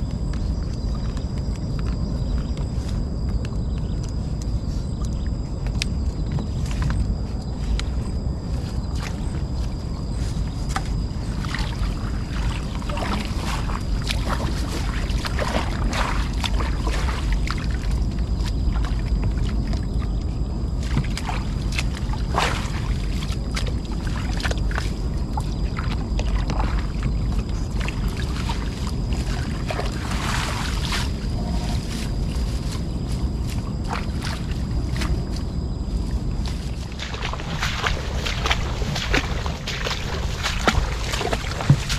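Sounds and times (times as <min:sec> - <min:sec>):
steady low rumble: 0:00.0 - 0:41.9
water splashing around boat: 0:00.3 - 0:41.9.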